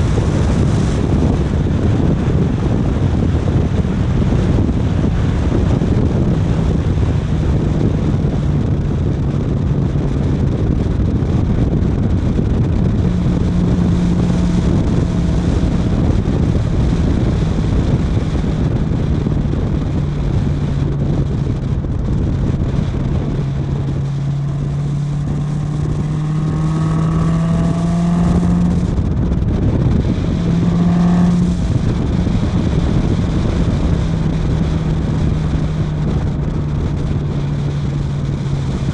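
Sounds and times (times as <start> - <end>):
car engine running: 0.0 - 38.9
wind and road noise: 0.0 - 38.9.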